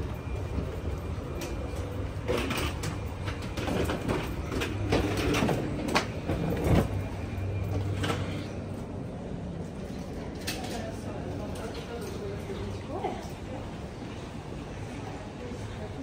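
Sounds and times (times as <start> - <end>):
wheeled suitcases rolling: 0.0 - 16.0.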